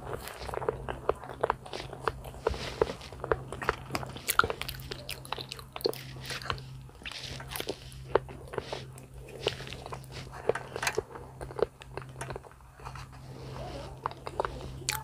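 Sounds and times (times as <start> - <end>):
chewing with wet mouth clicks: 0.0 - 15.0
low steady hum: 0.0 - 15.0.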